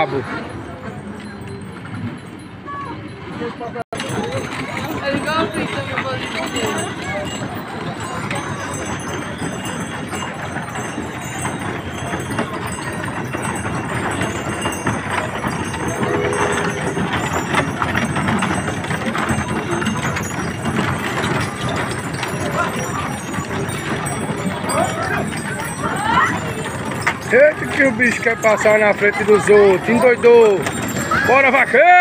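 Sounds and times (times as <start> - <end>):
people's voices: 0.0 - 32.0
wooden cart wheels rattling: 0.0 - 32.0
hooves clopping: 4.0 - 32.0.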